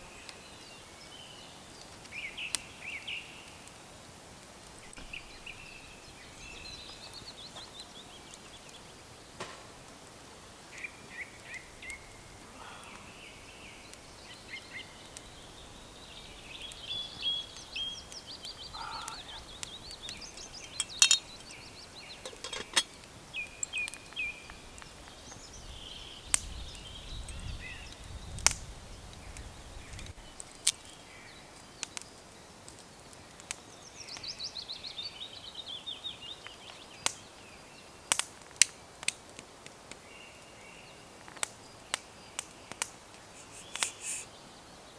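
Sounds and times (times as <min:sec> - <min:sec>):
songbirds singing: 0:00.0 - 0:04.1, 0:04.7 - 0:09.4, 0:10.4 - 0:39.0, 0:39.9 - 0:44.9
wood fire crackling: 0:00.0 - 0:44.9.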